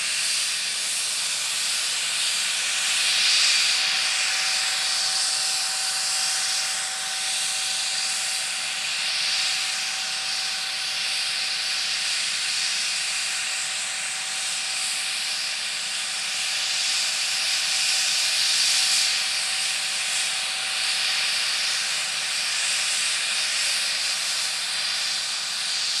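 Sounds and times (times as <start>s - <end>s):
helicopter turbine engines running: 0.0s - 26.0s.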